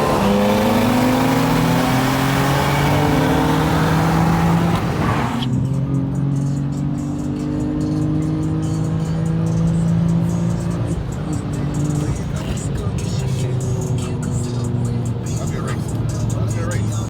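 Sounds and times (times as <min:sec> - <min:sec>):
car engine accelerating: 0:00.0 - 0:17.0
music playing: 0:00.0 - 0:17.0.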